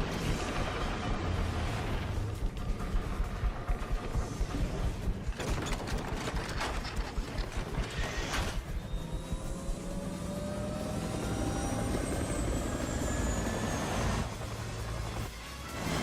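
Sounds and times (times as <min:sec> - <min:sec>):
helicopter rotor and engine rumble: 0:00.0 - 0:16.0.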